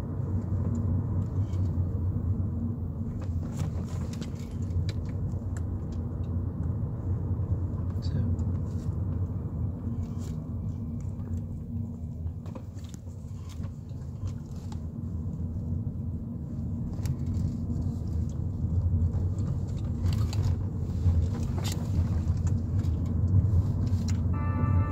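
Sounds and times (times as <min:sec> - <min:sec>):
car engine and tyre rumble: 0:00.0 - 0:24.9.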